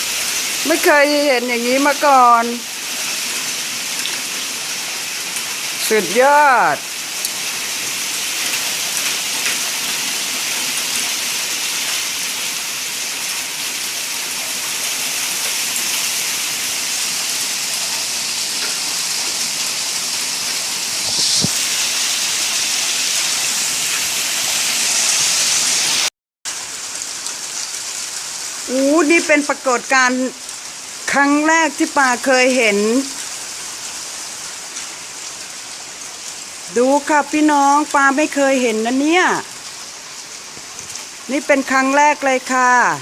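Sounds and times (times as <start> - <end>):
hail and rain hitting ground: 0.0 - 25.9, 26.5 - 42.5.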